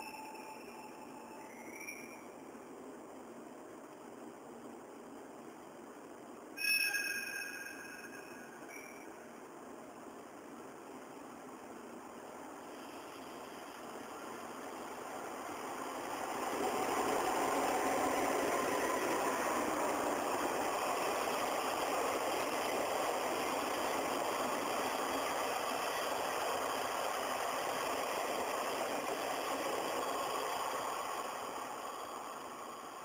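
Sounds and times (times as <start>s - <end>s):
train wheels running on rails: 0.0s - 3.0s, 6.6s - 33.0s.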